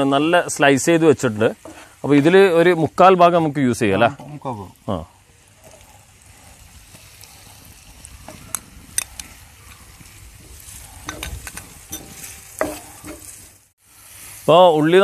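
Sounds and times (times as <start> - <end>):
shallots sizzling in hot oil: 0.0 - 15.0.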